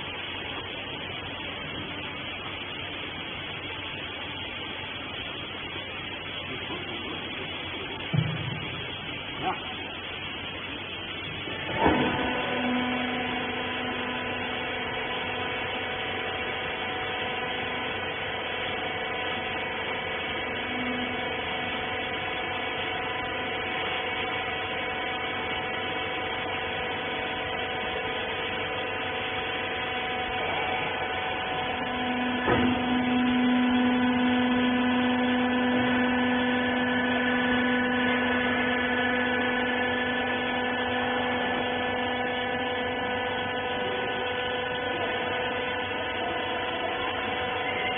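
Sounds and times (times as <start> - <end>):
baler motor and pump whining: 0.0 - 47.9.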